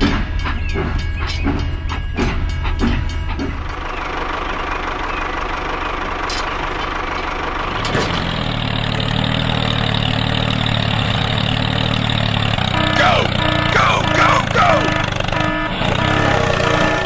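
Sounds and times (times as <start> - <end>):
deep engine hum: 0.0 - 17.0
engine idling: 0.0 - 17.0.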